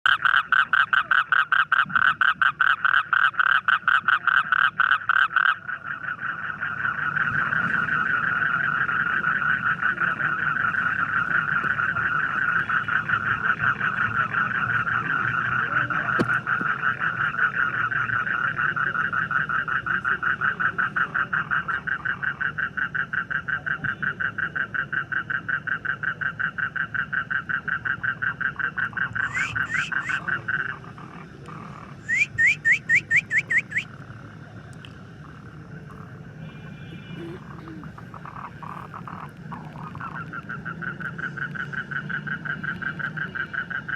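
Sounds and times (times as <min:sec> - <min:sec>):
frogs croaking in chorus: 0:00.0 - 0:43.9.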